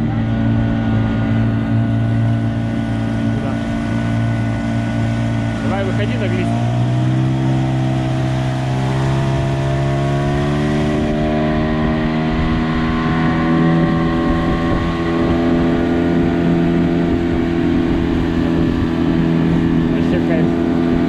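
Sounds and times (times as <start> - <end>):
outboard motor running: 0.0 - 21.0
water rushing: 0.0 - 21.0.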